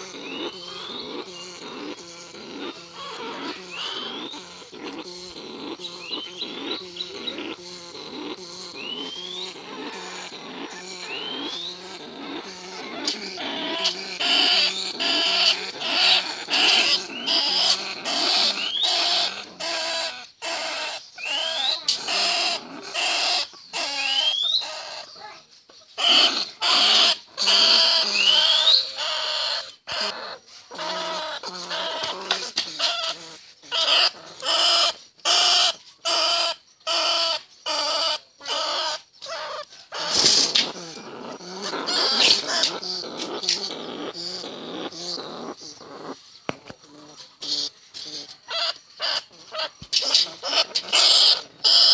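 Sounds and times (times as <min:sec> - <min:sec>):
rats squealing and chattering: 0:00.0 - 0:51.9.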